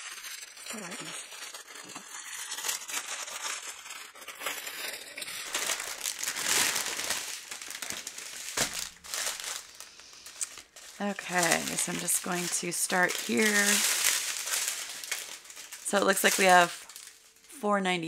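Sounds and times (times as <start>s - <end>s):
plastic bags crinkling: 0.0s - 17.6s.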